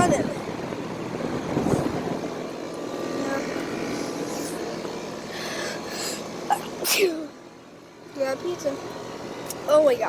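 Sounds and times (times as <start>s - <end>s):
condenser fans whooshing: 0.0s - 10.0s
low machine hum: 0.0s - 10.0s.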